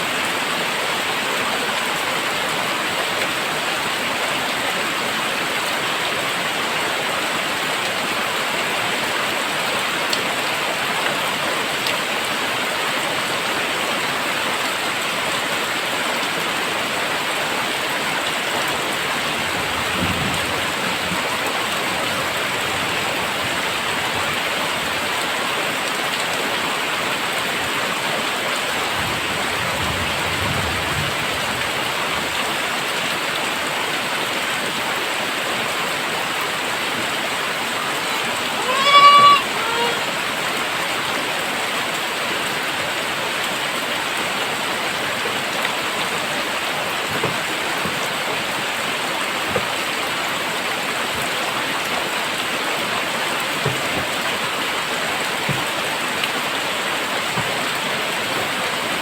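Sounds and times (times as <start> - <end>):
very heavy rain falling: 0.0 - 59.0.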